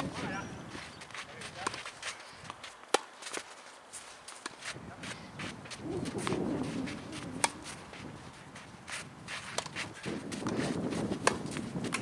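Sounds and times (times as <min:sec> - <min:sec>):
racket hitting tennis ball: 0:00.0 - 0:00.4, 0:01.2 - 0:03.6, 0:04.2 - 0:08.2, 0:08.8 - 0:12.0
footsteps sliding on clay: 0:00.0 - 0:12.0.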